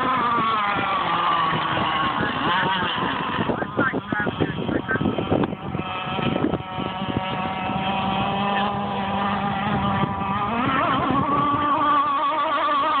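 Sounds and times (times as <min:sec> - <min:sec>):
model boat engine whining: 0:00.0 - 0:13.0.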